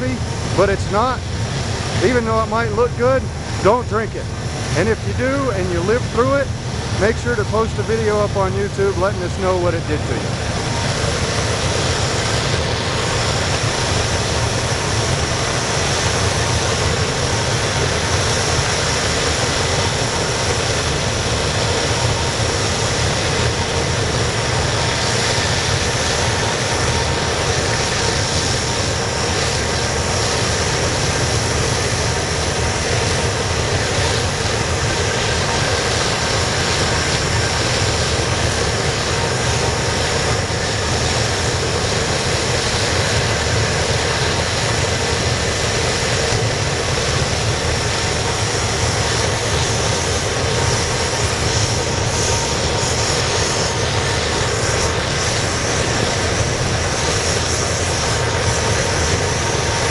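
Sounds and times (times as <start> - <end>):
oil burner rushing: 0.0 - 59.9.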